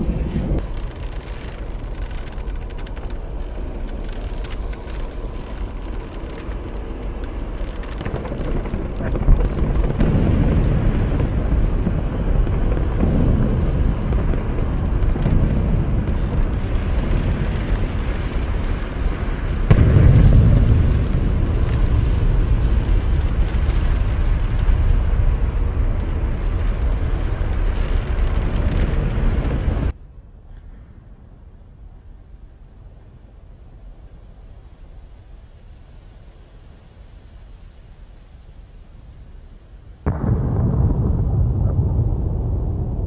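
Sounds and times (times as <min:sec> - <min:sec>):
volcanic eruption rumble: 0:00.0 - 0:30.0, 0:31.8 - 0:43.0.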